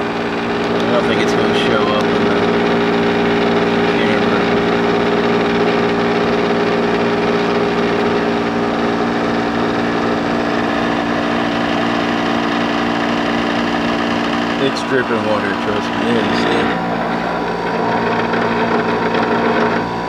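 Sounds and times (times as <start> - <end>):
dehumidifier hum and fan: 0.0 - 20.0.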